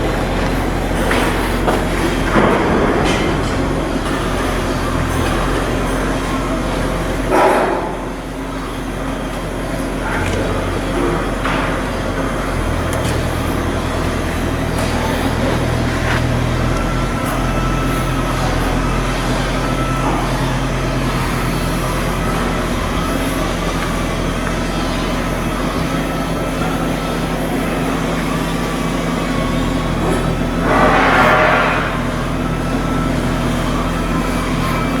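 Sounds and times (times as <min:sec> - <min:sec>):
low machinery hum: 0:00.0 - 0:35.0.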